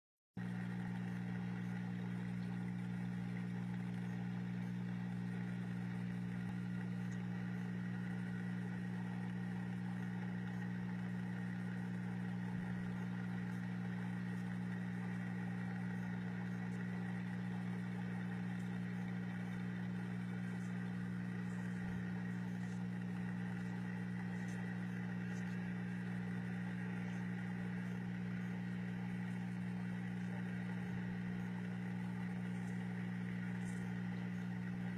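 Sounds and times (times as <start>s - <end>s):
electric pump humming: 0.4s - 34.9s.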